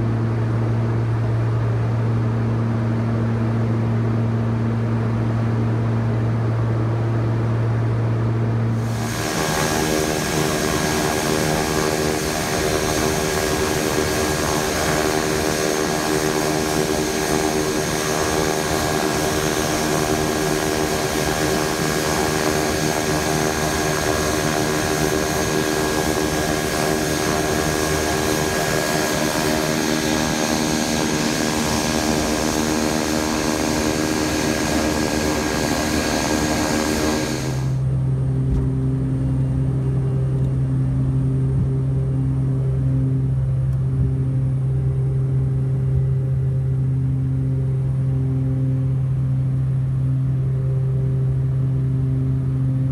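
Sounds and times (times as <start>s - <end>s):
engine drone inside cockpit: 0.0s - 52.9s
propellers droning: 0.0s - 52.9s
turbine whine: 0.0s - 52.9s.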